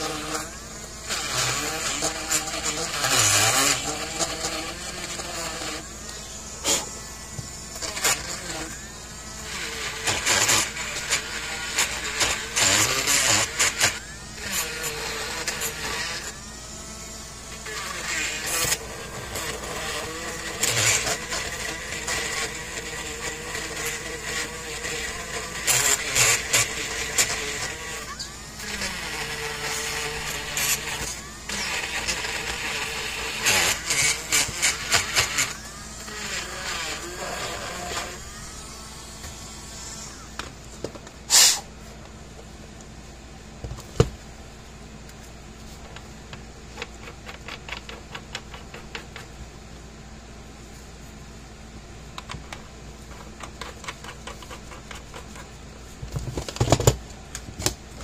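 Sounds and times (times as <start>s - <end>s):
rotary tool whining: 0.0s - 58.0s.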